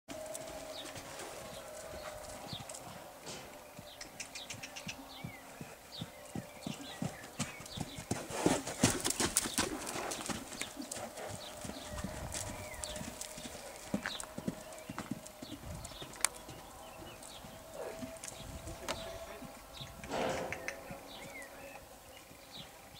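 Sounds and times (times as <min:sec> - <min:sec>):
horse hoofbeats on sand: 0:00.1 - 0:19.5.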